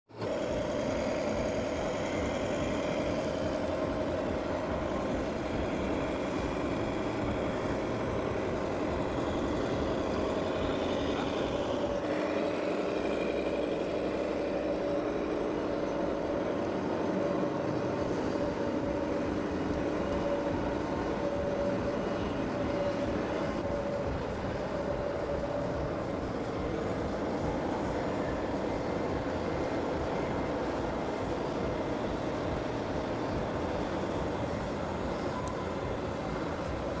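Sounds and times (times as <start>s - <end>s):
lower whine: 0.1s - 37.0s.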